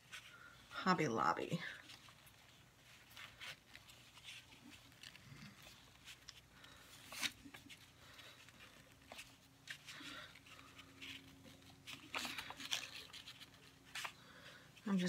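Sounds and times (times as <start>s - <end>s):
ribbon rustling and crinkling: 0.0s - 15.0s.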